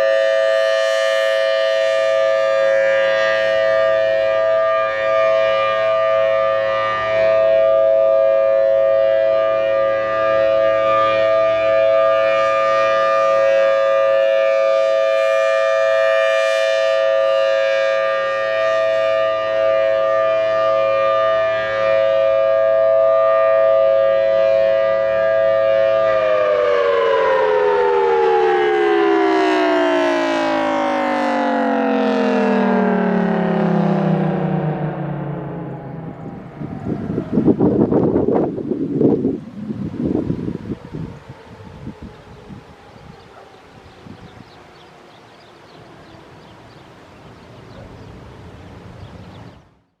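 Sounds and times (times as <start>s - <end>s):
outdoor warning siren: 0.0s - 50.0s.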